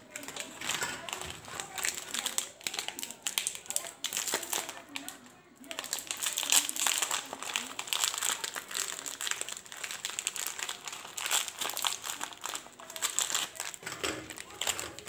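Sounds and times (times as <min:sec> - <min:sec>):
plastic wrappers crinkling: 0:00.0 - 0:15.0.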